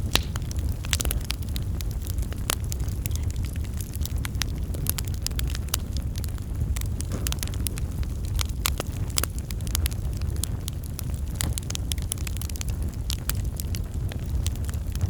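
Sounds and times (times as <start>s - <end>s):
low rumble of flames: 0.0s - 15.0s
sharp pops of fire: 0.0s - 15.0s
wood fire crackling: 0.0s - 15.0s.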